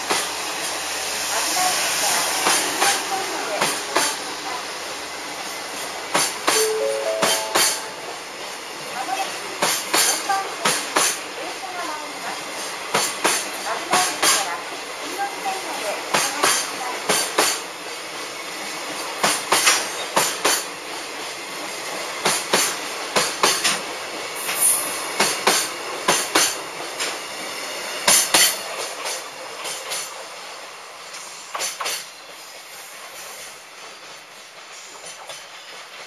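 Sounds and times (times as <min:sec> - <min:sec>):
train rumble: 0:00.0 - 0:36.0
train wheels clacking over rail joints: 0:01.6 - 0:04.6, 0:05.4 - 0:27.3, 0:28.0 - 0:30.4, 0:31.1 - 0:36.0.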